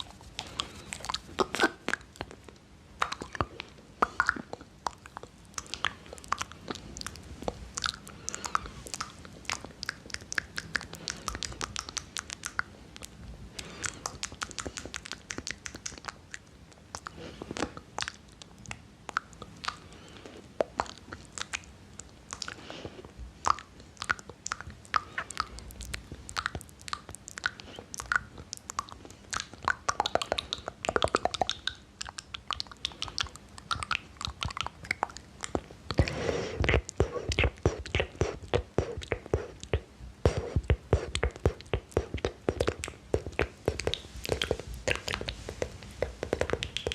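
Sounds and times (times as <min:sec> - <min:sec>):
mouth clicks and smacks: 0:00.0 - 0:46.9.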